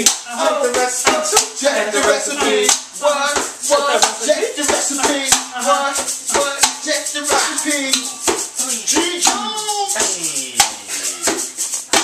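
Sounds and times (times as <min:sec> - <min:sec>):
man rapping over a beat: 0:00.0 - 0:10.9
shaker-like rattle: 0:00.0 - 0:12.0.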